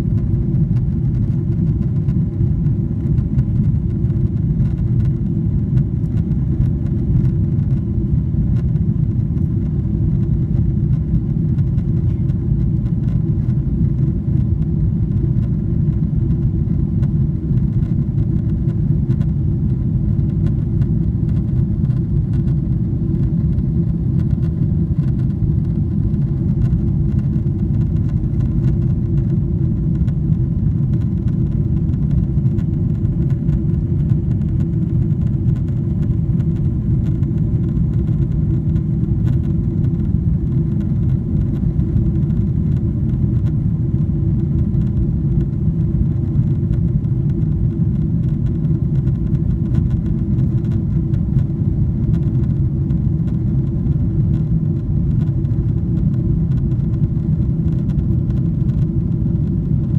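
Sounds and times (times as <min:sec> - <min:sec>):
airliner cabin rumble: 0:00.0 - 0:59.9
faint steady hum: 0:00.0 - 0:59.9.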